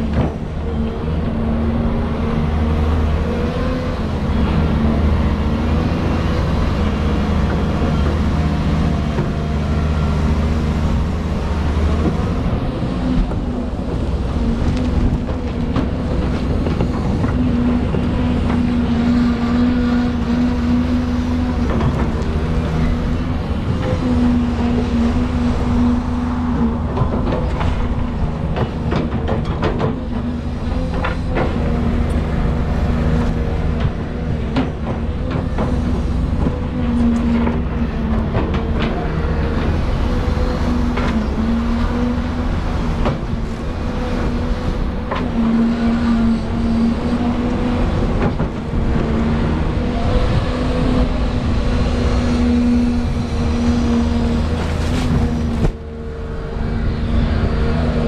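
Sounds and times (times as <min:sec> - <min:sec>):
excavator diesel engine under load: 0:00.0 - 0:58.0.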